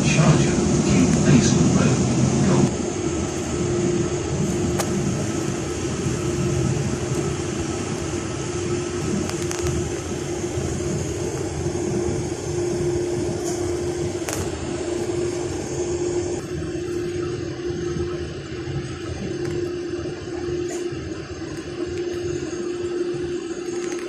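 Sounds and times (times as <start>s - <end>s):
road rumble and hiss: 0.0s - 23.6s
constant hum: 0.0s - 24.0s.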